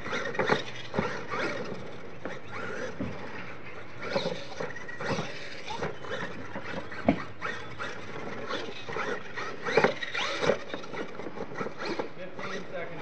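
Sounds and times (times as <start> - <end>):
toy truck motor revving: 0.0 - 13.0.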